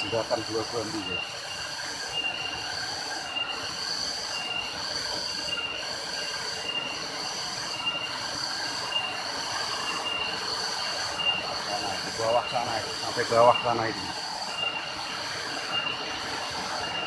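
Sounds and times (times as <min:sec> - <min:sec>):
rushing waterfall: 0:00.0 - 0:17.0
shrill cicada chorus: 0:00.0 - 0:17.0.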